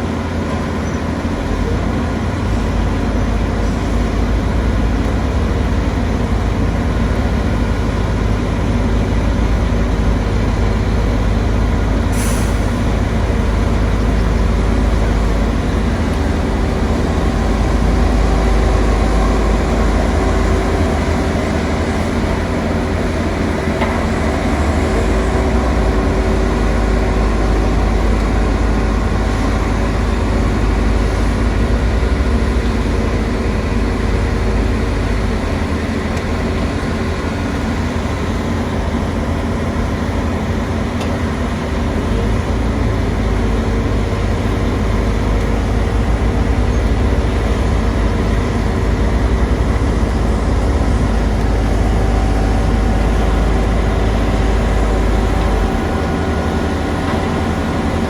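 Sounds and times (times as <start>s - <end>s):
heavy machinery engines rumbling: 0.0s - 58.0s.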